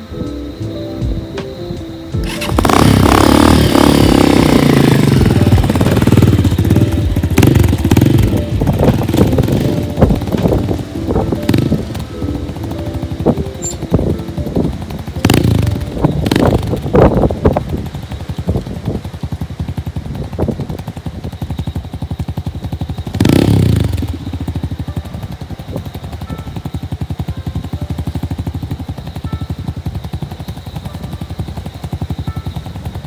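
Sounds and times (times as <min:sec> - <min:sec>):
wind buffeting microphone: 0:01.1 - 0:33.0.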